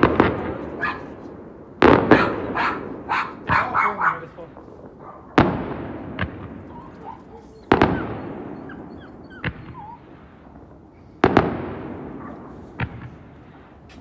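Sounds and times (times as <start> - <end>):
fireworks booming: 0.0 - 14.0
small firework bangs: 0.0 - 14.0.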